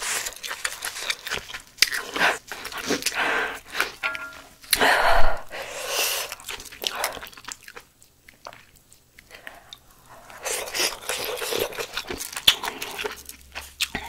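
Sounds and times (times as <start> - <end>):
wet chewing and mouth clicks: 0.0 - 4.8, 6.1 - 14.0.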